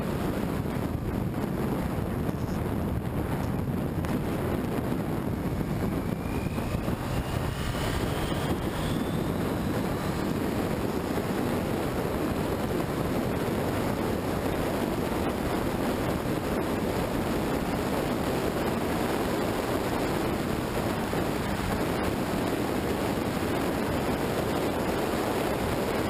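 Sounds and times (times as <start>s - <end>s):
faint rising whine: 0.0s - 26.0s
wind buffeting microphone: 0.0s - 26.0s.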